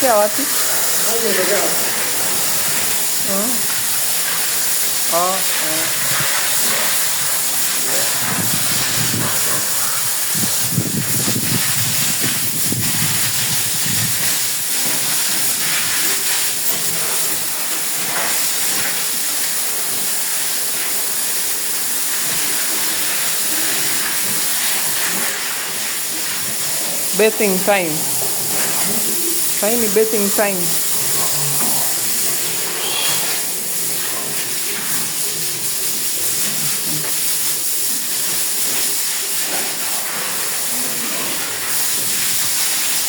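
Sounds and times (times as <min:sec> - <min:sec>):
water hose spraying: 0:00.0 - 0:43.0.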